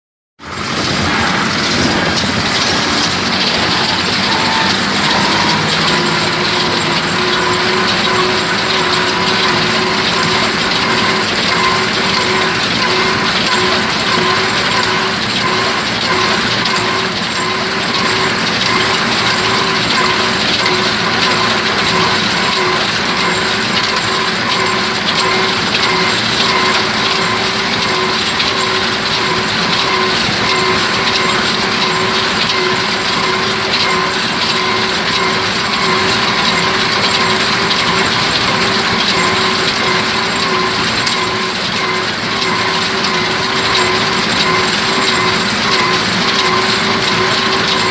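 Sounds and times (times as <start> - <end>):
steady mechanical whine: 0.4 - 47.9
tractor engine running: 0.4 - 47.9
hay baler clattering: 0.5 - 47.9.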